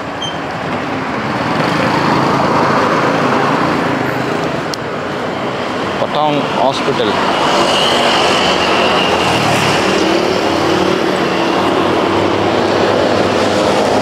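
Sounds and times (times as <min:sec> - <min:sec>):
cars and motorbikes driving past: 0:00.0 - 0:14.0.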